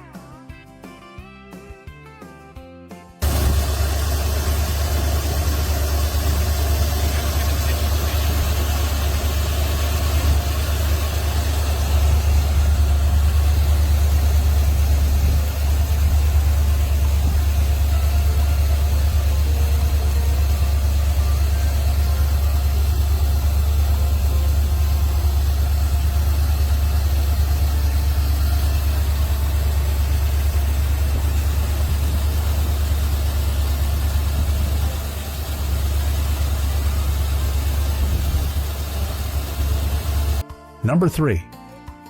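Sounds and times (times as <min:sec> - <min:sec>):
car engine idling: 0:03.2 - 0:40.4.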